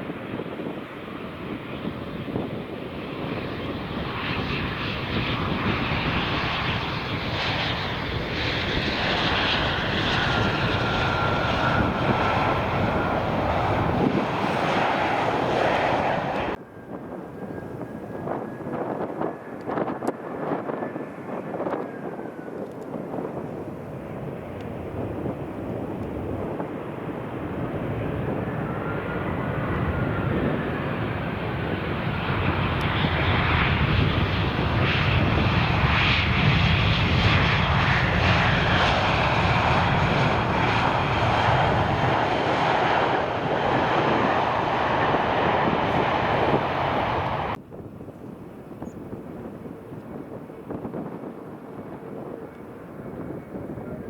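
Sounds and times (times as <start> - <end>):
jet engines passing close: 0.0 - 54.0.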